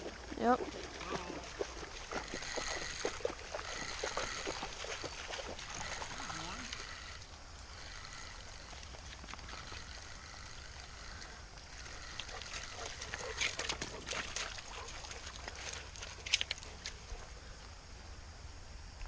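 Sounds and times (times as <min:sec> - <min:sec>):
creek water splashing: 0:00.0 - 0:17.5.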